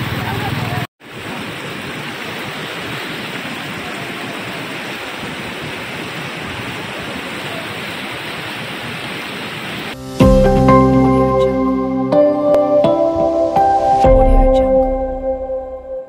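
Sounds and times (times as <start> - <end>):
stream water rushing: 0.0 - 14.2.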